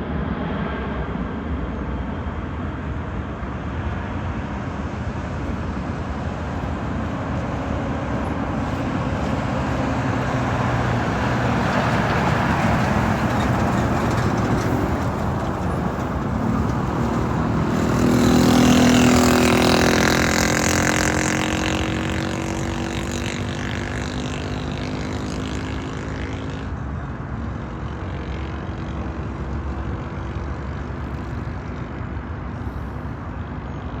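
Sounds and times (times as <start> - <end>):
jet engines roaring: 0.0 - 33.7.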